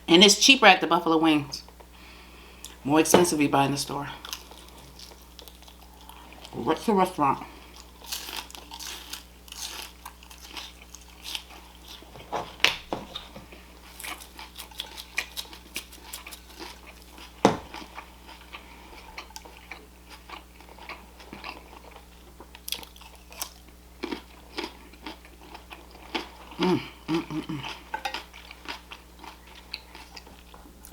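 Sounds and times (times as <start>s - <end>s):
wet chewing and crunchy biting: 4.2s - 6.6s, 7.6s - 30.9s.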